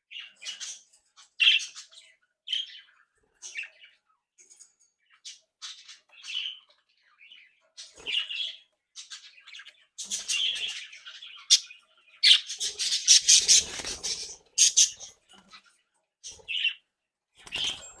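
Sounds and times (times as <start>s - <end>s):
budgerigars chirping and squawking: 0.0s - 18.0s.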